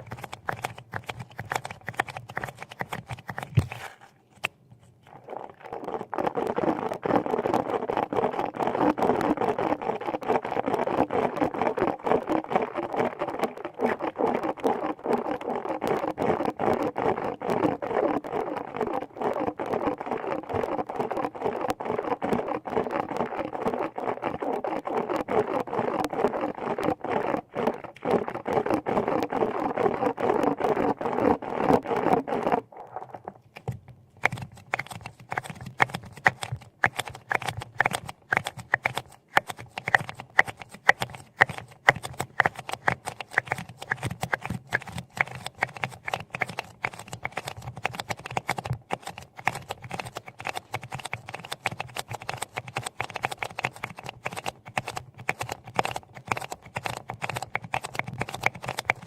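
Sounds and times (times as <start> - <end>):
close-up scratching and crackling: 0.0 - 59.0.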